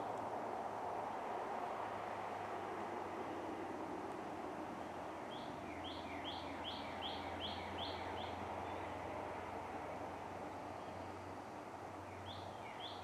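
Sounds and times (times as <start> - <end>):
outdoor background hiss: 0.0 - 13.0
songbird singing: 0.0 - 13.0.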